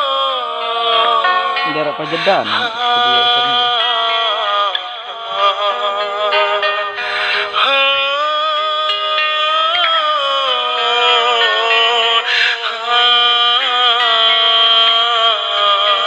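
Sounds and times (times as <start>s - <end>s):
song with wavering sung notes: 0.0s - 16.0s.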